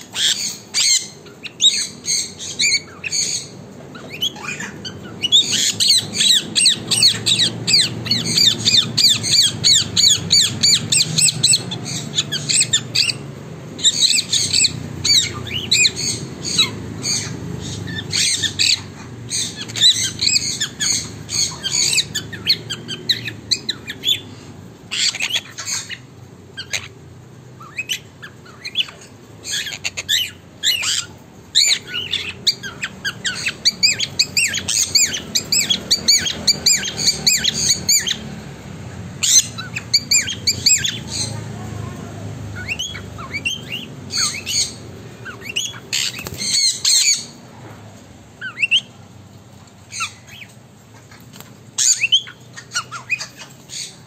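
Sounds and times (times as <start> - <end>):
parrots squawking and chirping: 0.0 - 54.0.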